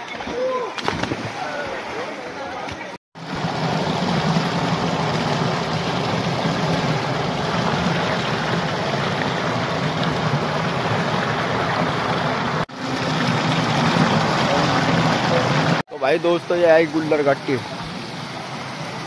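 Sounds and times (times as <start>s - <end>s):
water rushing over stones: 3.2s - 19.0s.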